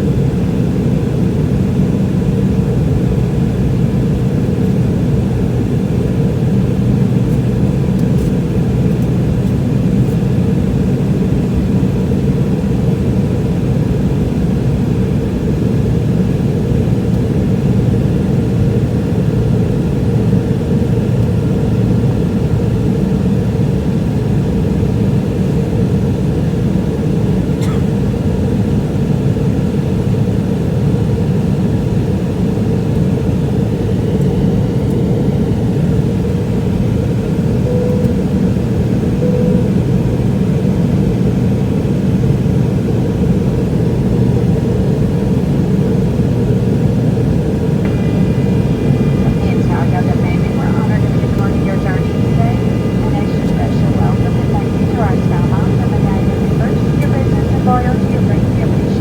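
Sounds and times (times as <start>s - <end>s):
jetliner cabin rumble: 0.0s - 59.0s.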